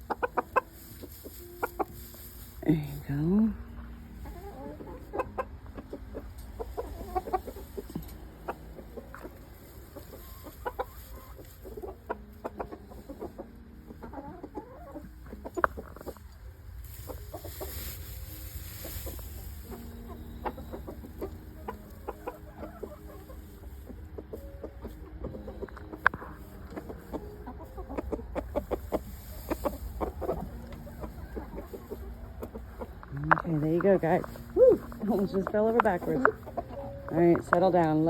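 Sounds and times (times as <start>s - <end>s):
chickens clucking softly: 0.0s - 2.5s, 3.7s - 38.0s.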